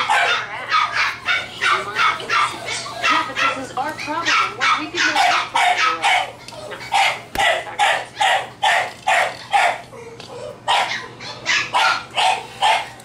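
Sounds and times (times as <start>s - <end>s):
puppy barking: 0.0s - 13.0s.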